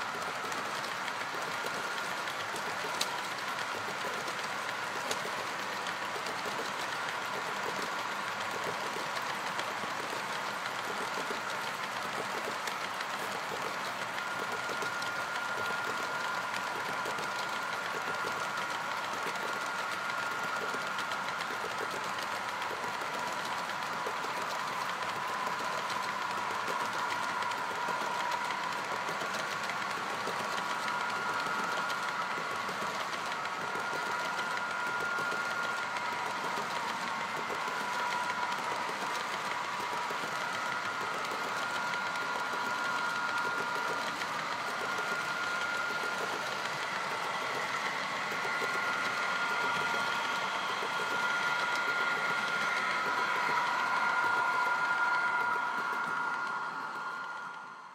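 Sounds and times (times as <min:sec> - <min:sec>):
model train wheels rattling: 0:00.0 - 0:57.0
thin steady whine: 0:00.0 - 0:57.9.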